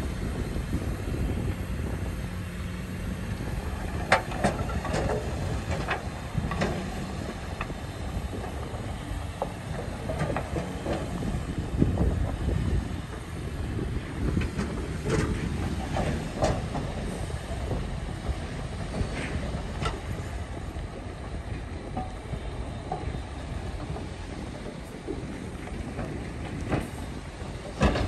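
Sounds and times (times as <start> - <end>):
diesel engine rumble: 0.0 - 28.0
metallic clanks of steel tracks: 0.2 - 28.0.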